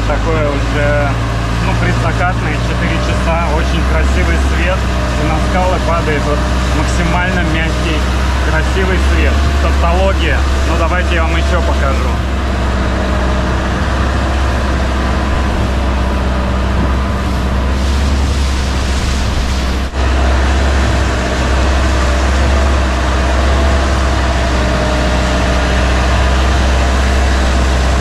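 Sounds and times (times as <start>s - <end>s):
boat engine droning: 0.0s - 28.0s
water and wind rushing: 0.0s - 28.0s.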